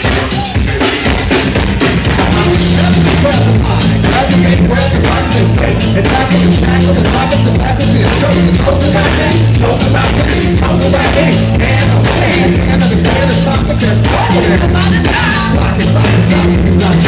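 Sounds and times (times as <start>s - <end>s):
bass line: 0.0s - 17.0s
drums: 0.0s - 17.0s
person singing: 2.1s - 17.0s.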